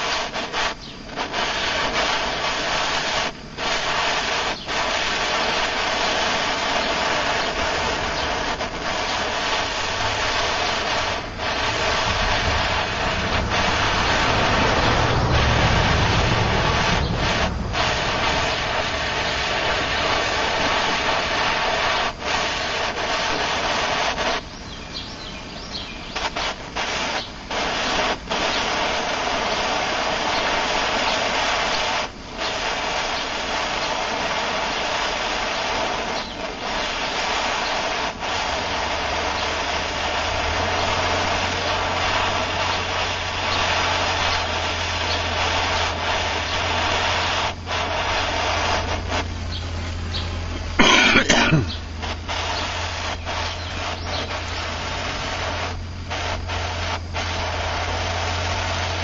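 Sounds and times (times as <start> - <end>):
gas torch flame hissing: 0.0 - 59.0.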